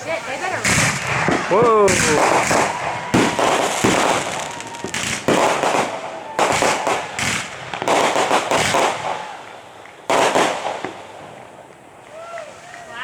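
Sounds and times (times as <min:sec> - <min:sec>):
faint firework whistle: 0:00.0 - 0:11.3
fireworks bangs with crackle: 0:00.0 - 0:13.0.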